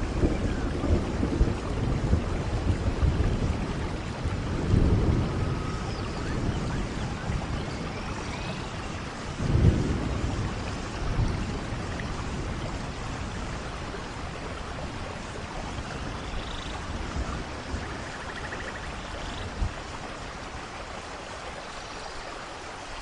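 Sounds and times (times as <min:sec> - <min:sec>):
low rumble of thunder: 0:00.0 - 0:21.1
rain falling: 0:00.0 - 0:23.0.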